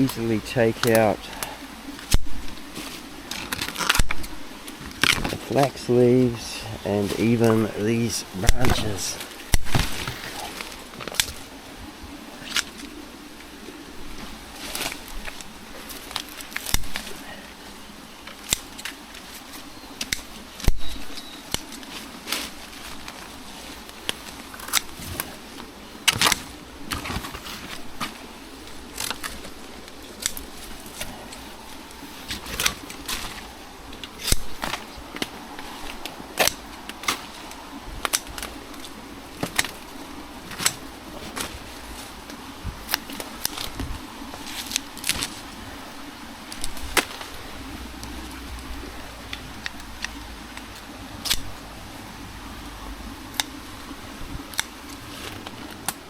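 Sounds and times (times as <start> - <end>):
scissors snipping leaves and branches: 0.0 - 5.7, 7.0 - 11.5, 14.7 - 17.3, 18.2 - 23.2, 23.8 - 25.5, 26.1 - 45.6, 48.0 - 51.6, 53.2 - 56.0.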